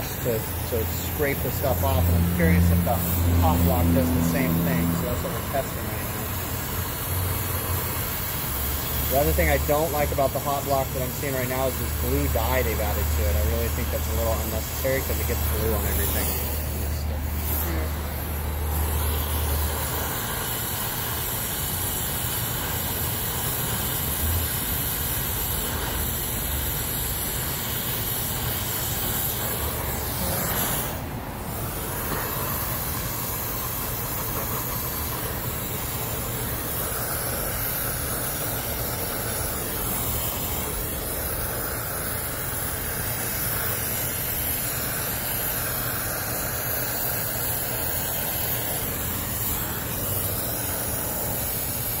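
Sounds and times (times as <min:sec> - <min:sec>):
brazing torch flame hissing: 0:00.0 - 0:52.0.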